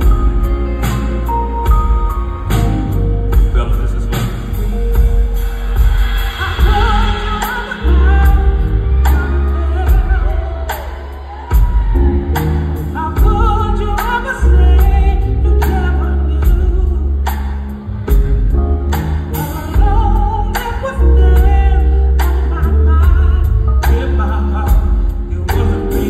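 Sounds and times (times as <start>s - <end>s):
live rock band playing: 0.0s - 26.0s
person singing: 2.6s - 26.0s.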